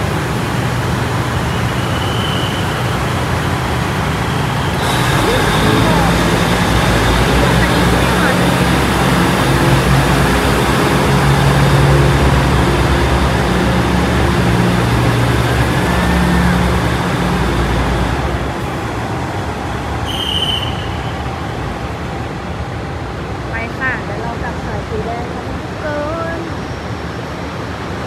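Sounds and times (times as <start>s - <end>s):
diesel train engine droning: 0.0s - 28.0s.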